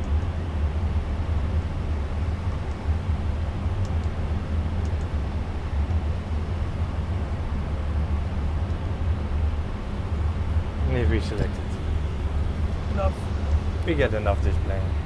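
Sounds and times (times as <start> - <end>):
cockpit systems hum and hiss: 0.0 - 15.0.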